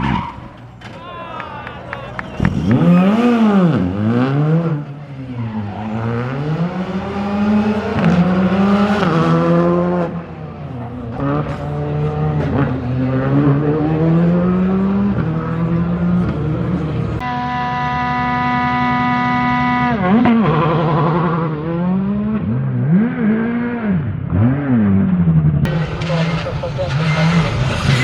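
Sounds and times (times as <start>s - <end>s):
rally car engine revving: 2.4s - 28.0s.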